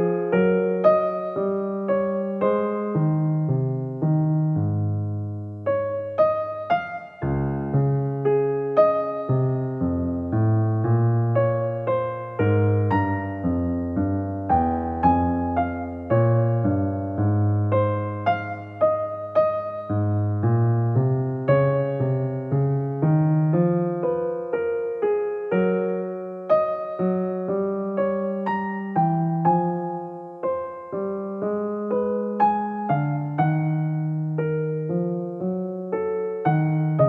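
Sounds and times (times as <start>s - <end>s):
piano-like keyboard chords: 0.0s - 37.0s.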